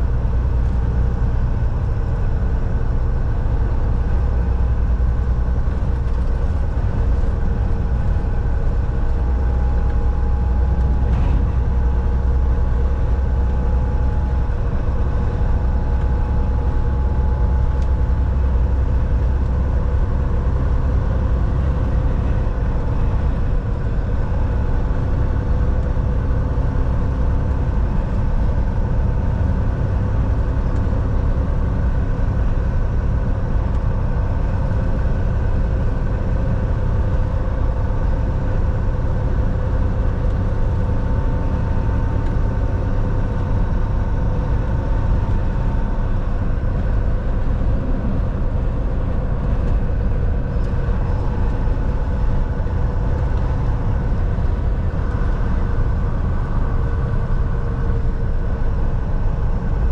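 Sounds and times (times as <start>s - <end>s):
truck engine and tyres droning: 0.0s - 59.9s.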